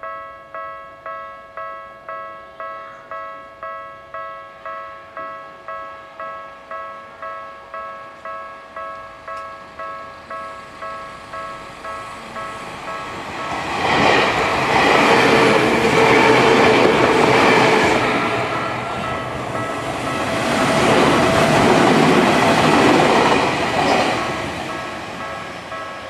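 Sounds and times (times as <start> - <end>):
crossing warning bell ringing: 0.0 - 26.0
electric trains passing: 0.0 - 26.0.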